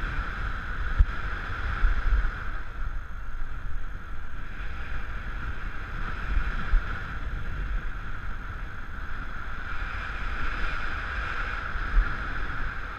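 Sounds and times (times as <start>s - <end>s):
wind rushing over camera: 0.0s - 12.9s.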